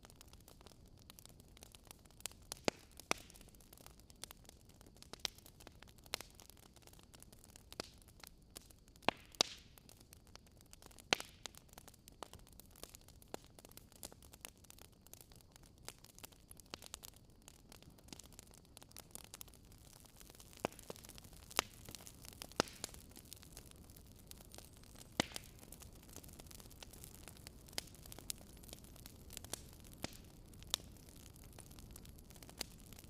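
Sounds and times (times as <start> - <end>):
faint steady hiss: 0.0 - 33.0
wood fire crackling: 0.0 - 33.0.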